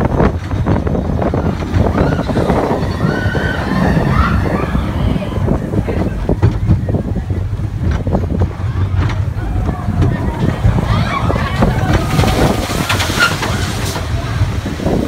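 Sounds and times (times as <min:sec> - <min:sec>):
roller coaster rattling on track: 0:00.0 - 0:15.0
wind buffeting microphone: 0:00.0 - 0:15.0.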